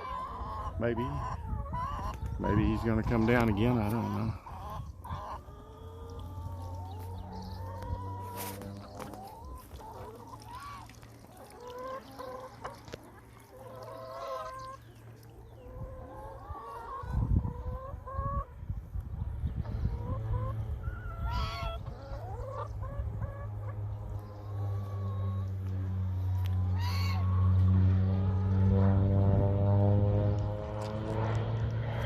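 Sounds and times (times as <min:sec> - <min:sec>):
hens clucking: 0:00.0 - 0:28.6.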